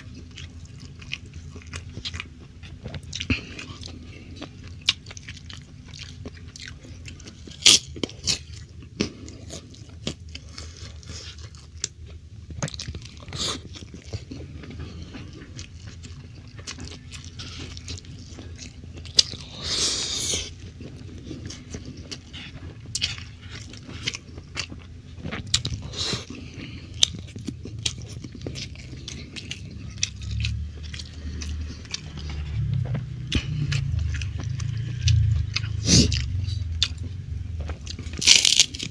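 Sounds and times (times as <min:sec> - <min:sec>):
person chewing: 0:00.0 - 0:38.9.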